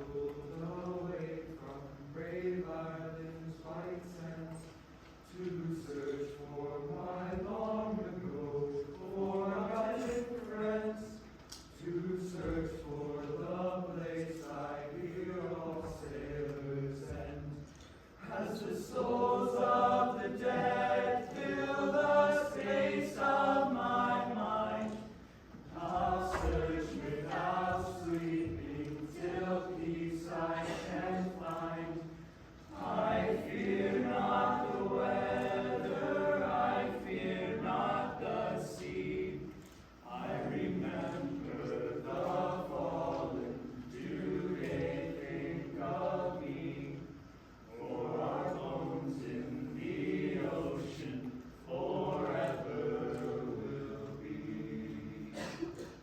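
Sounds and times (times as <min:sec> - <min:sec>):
unaccompanied choir singing: 0:00.0 - 0:56.0.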